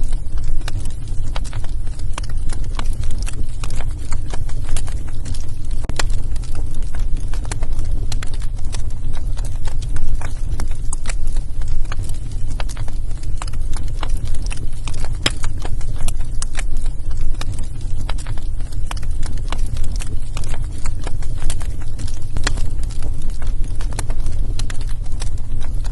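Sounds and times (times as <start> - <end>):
low steady rumble: 0.0 - 25.9
wood fire crackling: 0.0 - 25.9.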